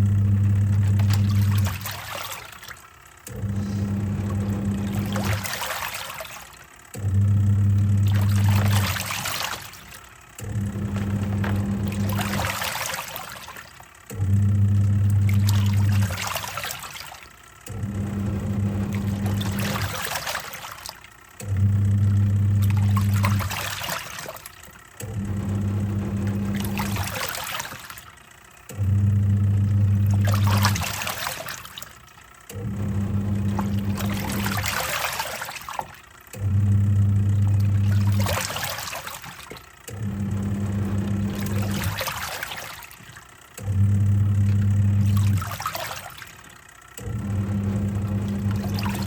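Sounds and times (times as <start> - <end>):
washing machine motor humming: 0.0 - 49.0
water sloshing and splashing: 0.6 - 29.0, 29.6 - 49.0.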